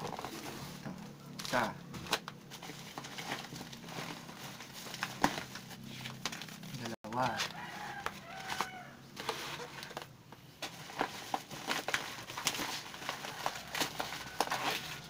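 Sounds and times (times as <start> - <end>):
paper bags rustling and crinkling: 0.0 - 15.0.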